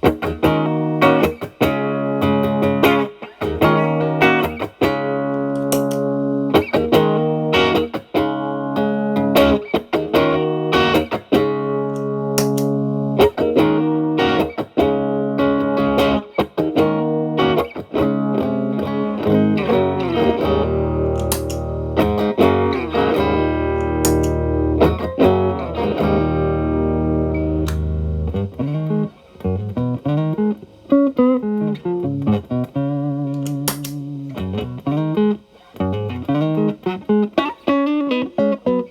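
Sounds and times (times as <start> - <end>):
distorted electric guitar chords: 0.0 - 38.9.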